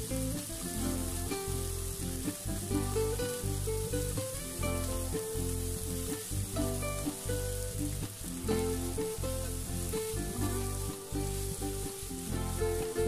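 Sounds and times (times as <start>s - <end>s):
background music with bass line: 0.0s - 13.0s
rice sizzling in a hot pan: 0.0s - 13.0s.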